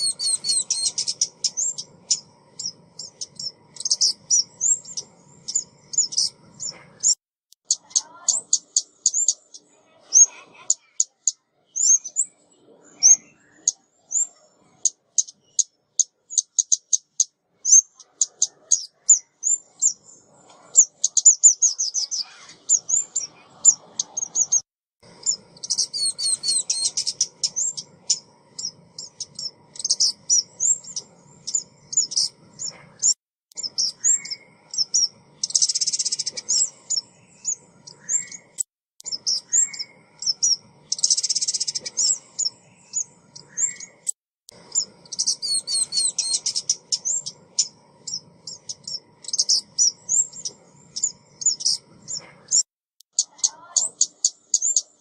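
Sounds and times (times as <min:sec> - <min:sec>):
buzzy bird chatters: 0:00.0 - 0:55.0
songbird chirps and trills: 0:00.0 - 0:55.0.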